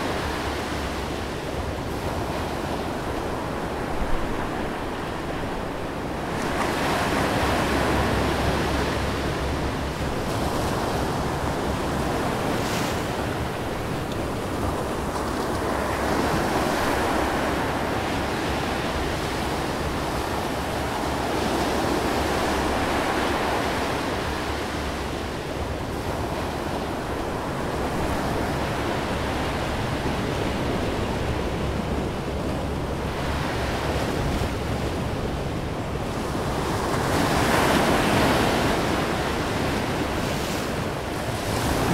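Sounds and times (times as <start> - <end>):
ocean waves washing: 0.0 - 41.9
wind: 0.0 - 41.9.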